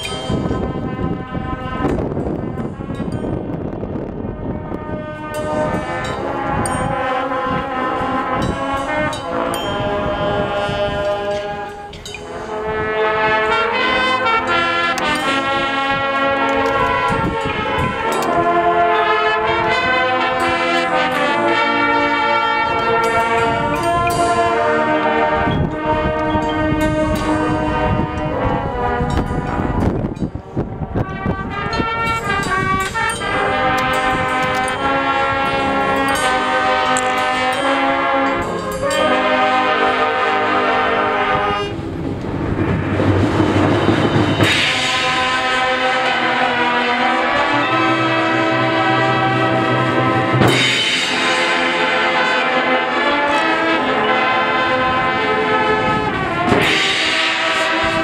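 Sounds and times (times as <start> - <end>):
marimbas and timpani: 0.0 - 4.2, 5.2 - 58.0
brass chords: 0.0 - 58.0.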